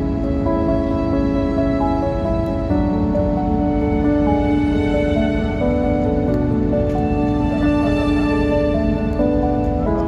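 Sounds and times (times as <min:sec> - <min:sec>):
music with slow held notes: 0:00.0 - 0:10.0
steady low rumble: 0:00.0 - 0:10.0.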